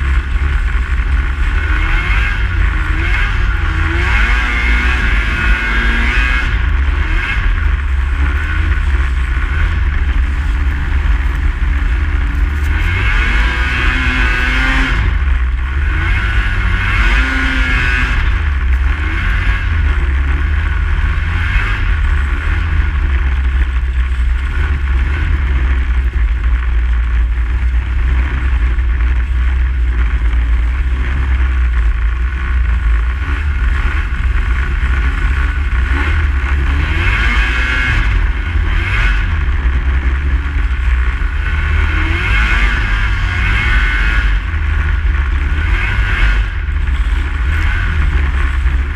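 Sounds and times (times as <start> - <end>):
snowmobile engine running: 0.0 - 48.9.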